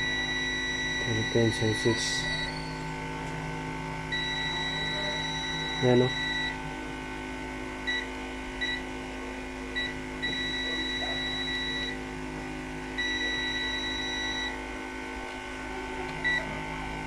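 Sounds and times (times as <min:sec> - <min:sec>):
multimeter continuity buzzer beeping: 0:00.0 - 0:17.0.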